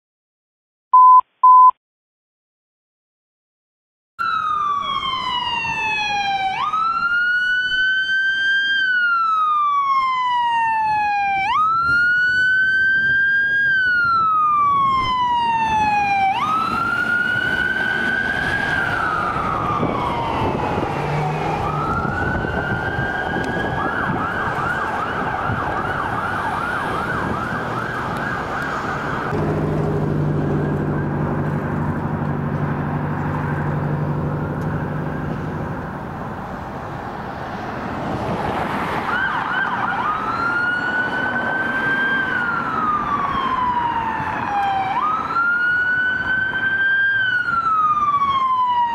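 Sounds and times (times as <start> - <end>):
emergency vehicle siren: 4.2 - 48.9.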